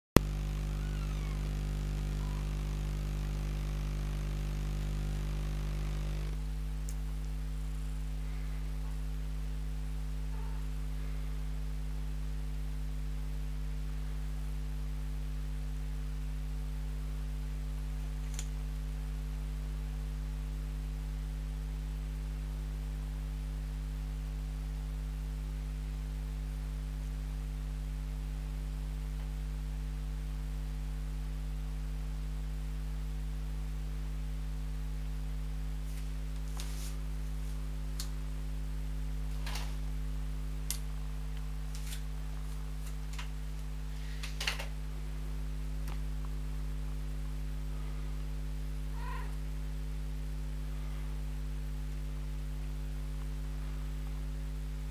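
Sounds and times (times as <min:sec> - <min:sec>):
low electrical hum: 0:00.2 - 0:54.9.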